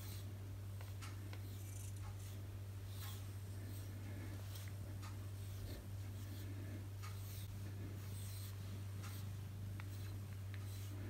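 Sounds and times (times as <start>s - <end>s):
brush rasping through cat fur: 0.0s - 11.0s
steady low hum: 0.0s - 11.0s.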